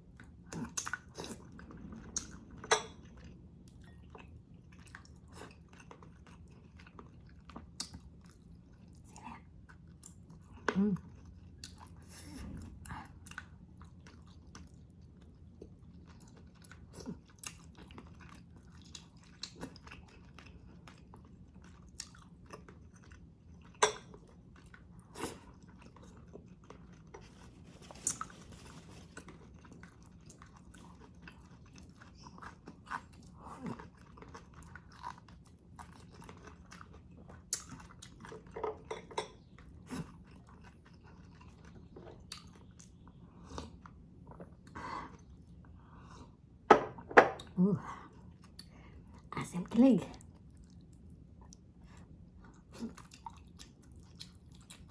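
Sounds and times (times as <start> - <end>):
person chewing and mouth sounds: 0.0 - 46.6, 50.2 - 54.9
faint low hum: 0.0 - 54.9.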